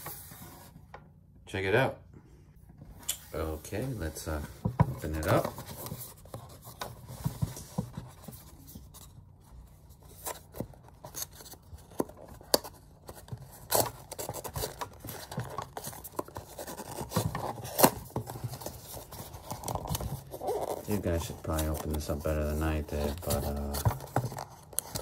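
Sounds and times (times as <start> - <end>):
cardboard scraping and rubbing: 3.3 - 25.0.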